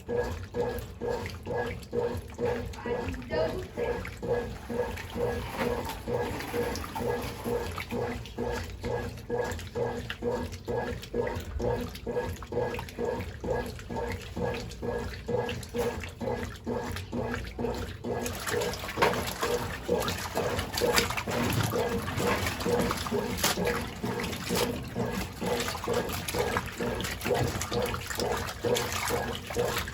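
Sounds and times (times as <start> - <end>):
washing machine sloshing laundry: 0.0 - 29.9.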